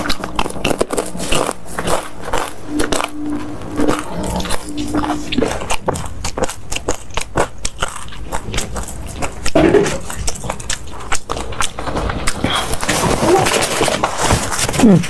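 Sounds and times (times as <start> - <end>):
chewing crunchy food: 0.0 - 15.0.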